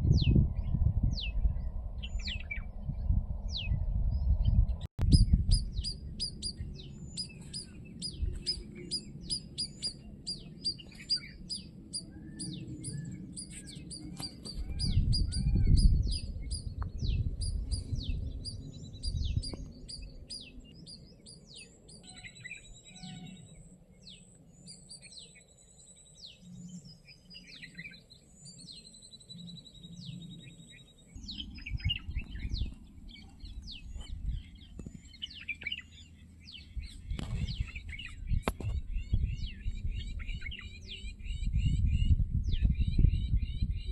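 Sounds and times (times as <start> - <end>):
low rumbling noise: 0.0 - 21.6, 29.5 - 43.9
small birds chirping: 0.0 - 43.9.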